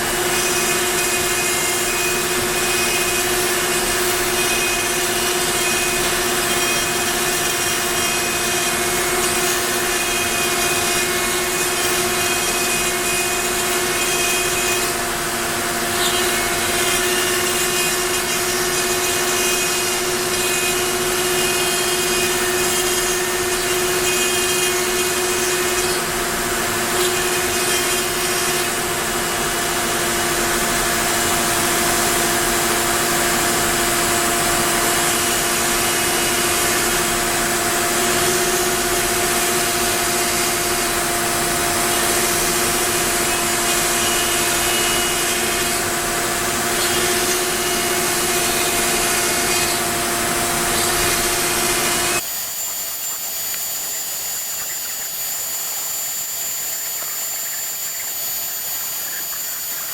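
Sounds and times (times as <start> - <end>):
bit cutting through wood: 0.0 - 59.9
high-pitched hum: 0.0 - 59.9
router machine whine: 0.0 - 59.9.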